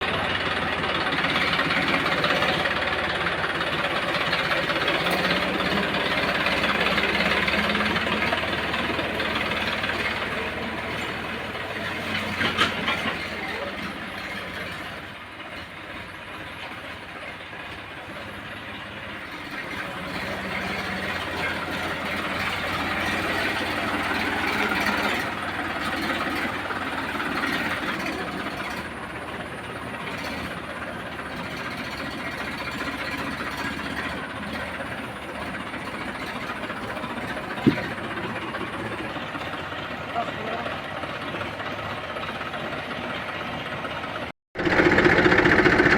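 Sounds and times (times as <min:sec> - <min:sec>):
plough working the soil: 0:00.0 - 0:45.9
tractor diesel engine under load: 0:00.0 - 0:45.9.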